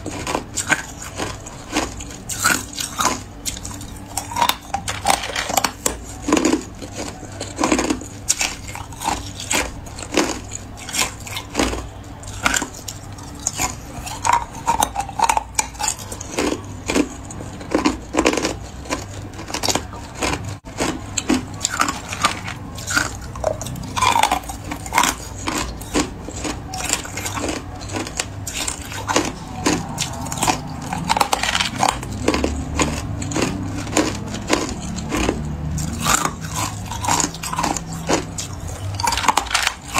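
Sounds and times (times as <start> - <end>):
ice cubes crunched between teeth: 0.0 - 39.9.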